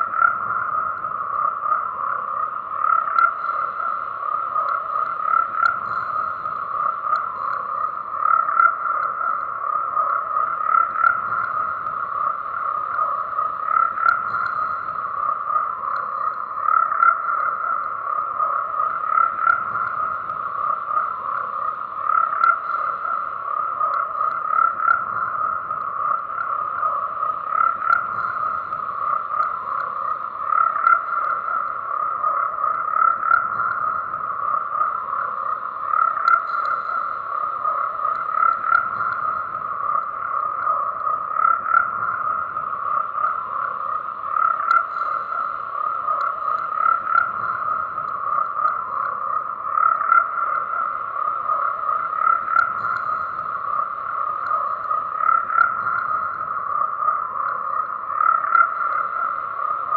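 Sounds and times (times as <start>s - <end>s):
frogs croaking in chorus: 0.0s - 59.9s.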